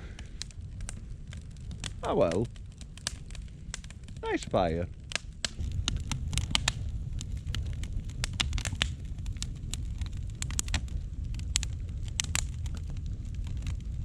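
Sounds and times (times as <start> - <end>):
bonfire crackling and popping: 0.0 - 14.0
low fire rumble: 0.0 - 14.0.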